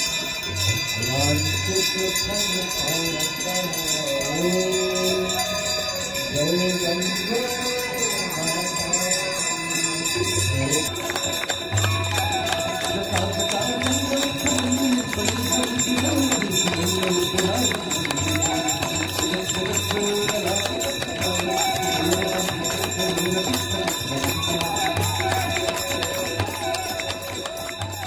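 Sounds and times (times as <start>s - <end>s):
bells ringing: 0.0s - 28.0s
person chanting devotional melody: 0.0s - 28.0s.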